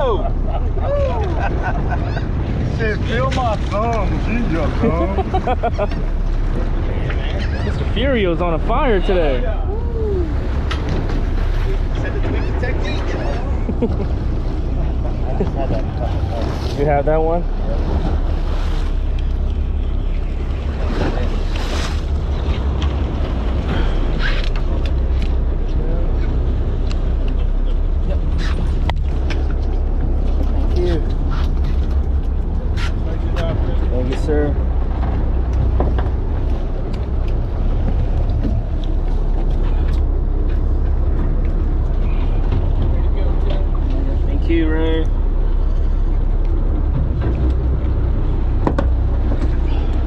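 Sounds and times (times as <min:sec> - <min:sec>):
low rumble on boat deck: 0:00.0 - 0:50.0
water washing against hull: 0:00.0 - 0:50.0
wind buffeting microphone: 0:00.0 - 0:50.0.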